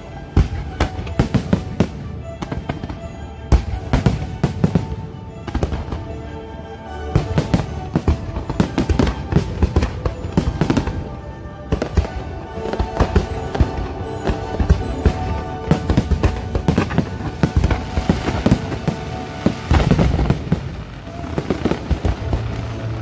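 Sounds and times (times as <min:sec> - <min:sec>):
music: 0:00.0 - 0:23.0
fireworks banging: 0:00.1 - 0:06.5, 0:07.1 - 0:23.0.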